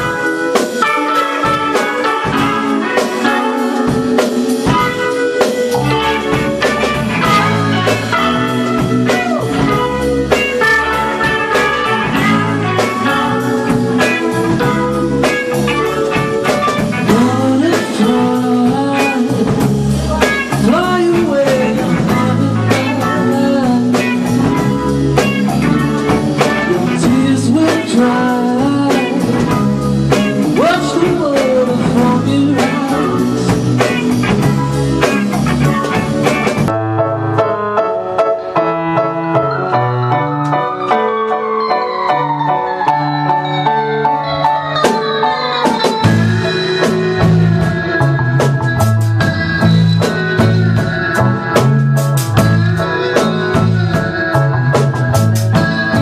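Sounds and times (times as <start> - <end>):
person singing: 0.0 - 36.7, 38.5 - 56.0
drum kit beat: 0.0 - 56.0
guitar: 0.0 - 56.0.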